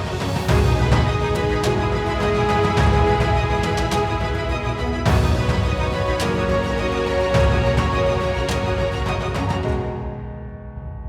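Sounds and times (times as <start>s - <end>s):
sharp percussive hits: 0.0s - 9.6s
music with sustained tones: 0.0s - 11.0s.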